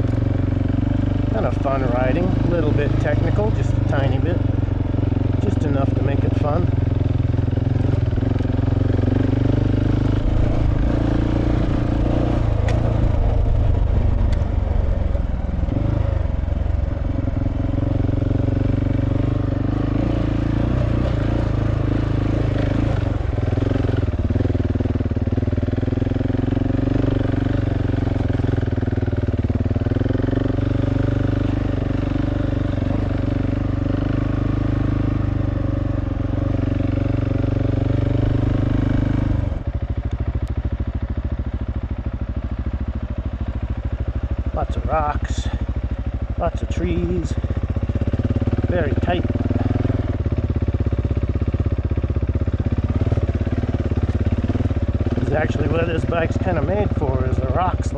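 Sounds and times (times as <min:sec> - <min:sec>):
motorcycle engine on dirt trail: 0:00.0 - 0:57.9.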